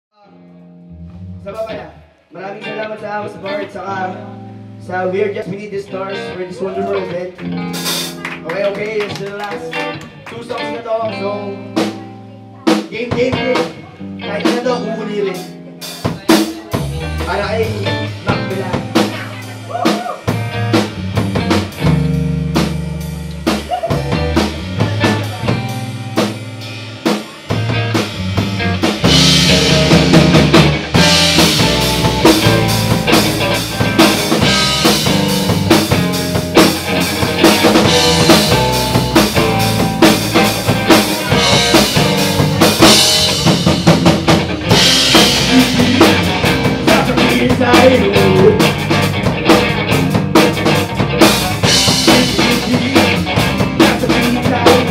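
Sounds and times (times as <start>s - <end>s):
live rock band playing: 0.3s - 54.9s.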